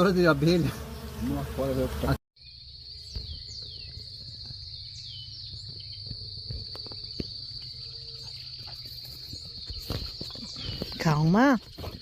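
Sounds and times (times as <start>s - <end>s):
bird chirping: 2.4s - 12.0s
high-pitched insect trill: 2.4s - 12.0s.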